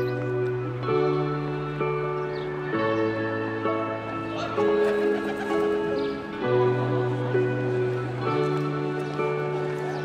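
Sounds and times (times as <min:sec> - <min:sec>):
background music of held chords: 0:00.0 - 0:10.0.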